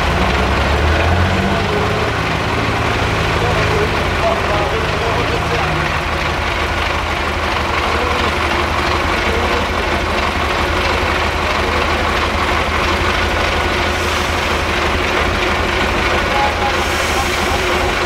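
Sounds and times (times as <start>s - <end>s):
diesel engine running at low revs: 0.0s - 18.0s.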